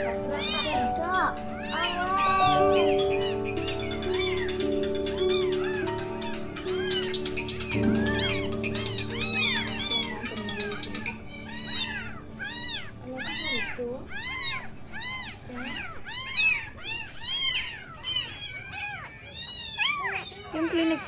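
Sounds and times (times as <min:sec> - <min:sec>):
kittens meowing: 0:00.0 - 0:21.0.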